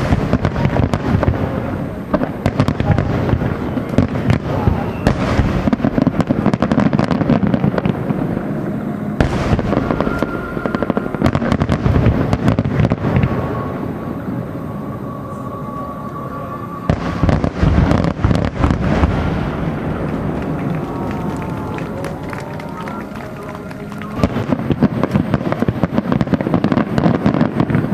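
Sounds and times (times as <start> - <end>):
fireworks crackling: 0.0 - 27.9.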